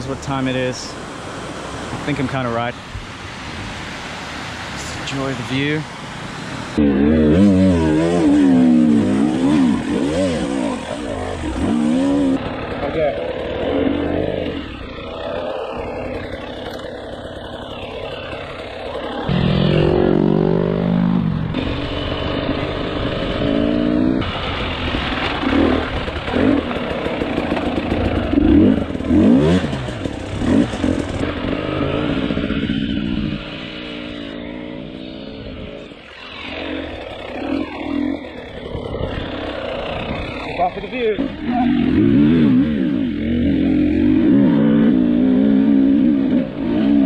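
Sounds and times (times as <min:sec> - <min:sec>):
dirt bike engine revving: 0:04.7 - 0:47.0.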